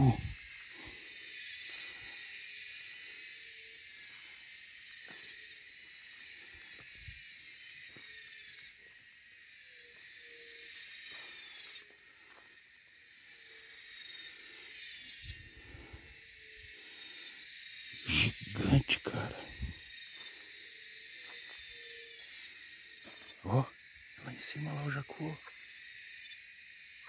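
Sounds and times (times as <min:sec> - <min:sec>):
insect chorus buzzing: 0:00.0 - 0:27.0.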